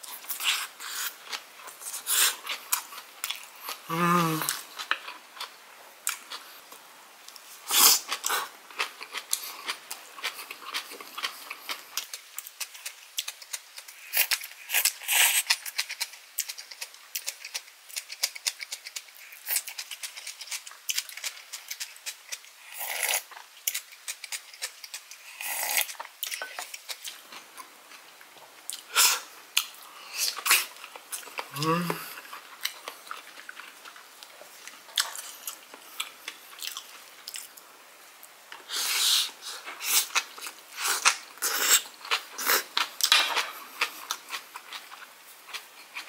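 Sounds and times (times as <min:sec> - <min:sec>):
person chewing food: 0:00.0 - 0:37.6, 0:38.5 - 0:46.0.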